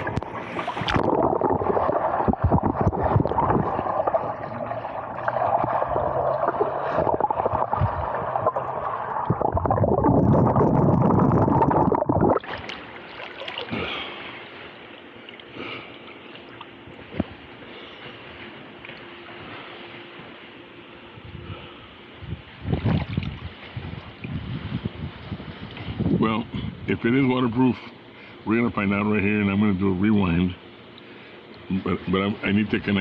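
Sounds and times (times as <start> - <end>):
water churning and gurgling: 0.0 - 26.9
faint steady hum: 0.0 - 33.0.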